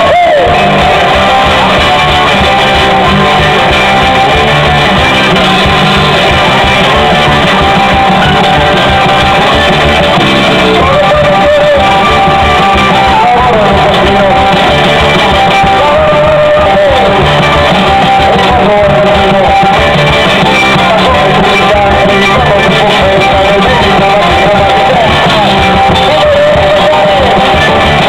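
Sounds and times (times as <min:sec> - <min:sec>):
drums beating: 0:00.0 - 0:28.0
electric guitar melody: 0:00.0 - 0:28.0
live band playing dance music: 0:00.0 - 0:28.0.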